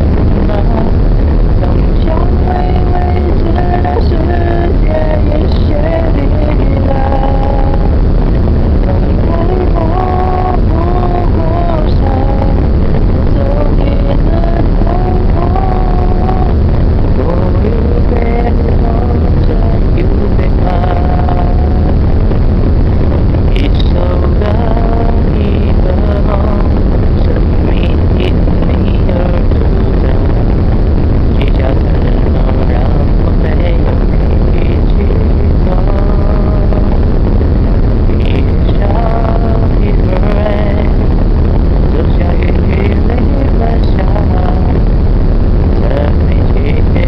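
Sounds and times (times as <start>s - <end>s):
boat engine rumble: 0.0s - 47.0s.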